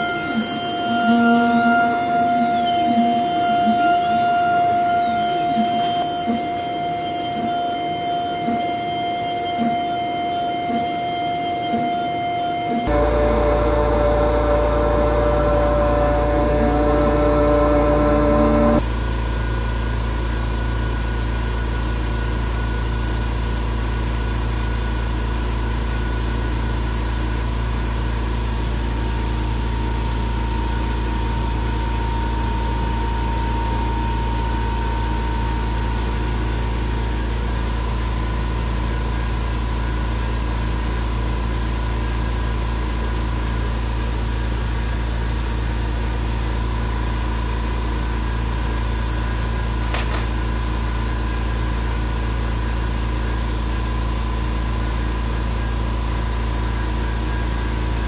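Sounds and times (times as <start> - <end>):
faint high whine: 0.0 - 58.0
machinery humming and hissing: 0.0 - 58.0.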